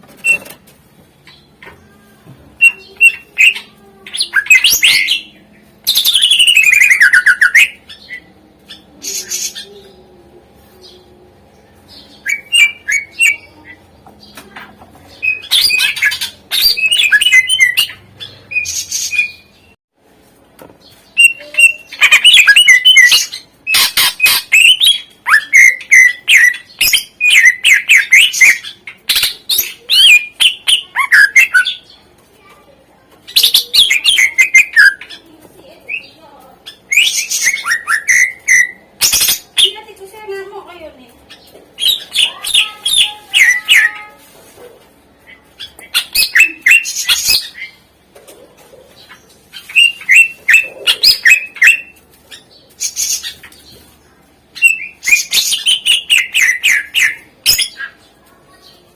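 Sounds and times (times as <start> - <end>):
bird singing chirps and trills: 1.2 - 19.8, 20.8 - 44.2, 45.2 - 48.0, 48.9 - 58.9.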